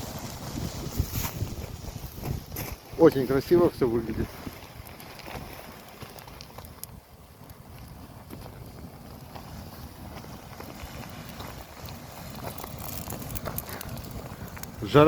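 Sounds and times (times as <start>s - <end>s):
bonfire crackling and popping: 0.0s - 15.0s
wind rumble on microphone: 0.0s - 15.0s.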